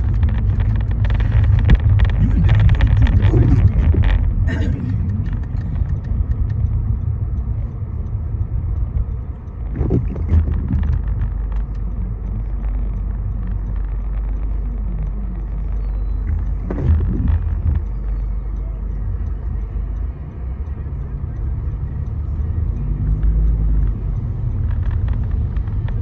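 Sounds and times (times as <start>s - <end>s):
car driving on road rumble: 0.0s - 26.0s
light ticks: 0.0s - 26.0s.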